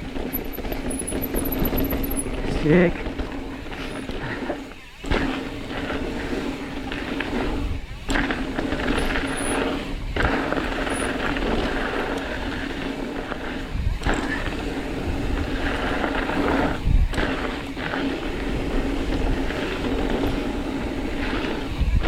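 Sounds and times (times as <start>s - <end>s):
bike rattling: 0.0s - 22.0s
bike tyres rumbling over dirt: 0.0s - 22.0s.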